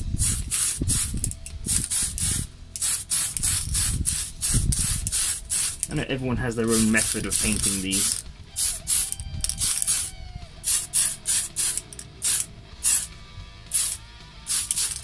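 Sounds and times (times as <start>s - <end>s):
spray paint can hissing: 0.0s - 5.9s, 6.7s - 13.1s, 13.7s - 15.0s.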